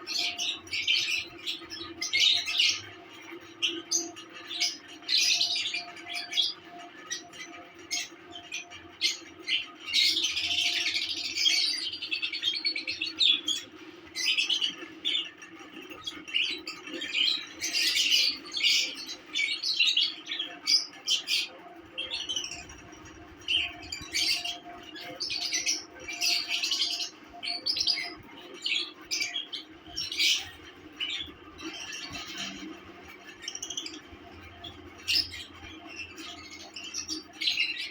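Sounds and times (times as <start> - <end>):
lovebirds chirping and chattering: 0.0 - 37.9.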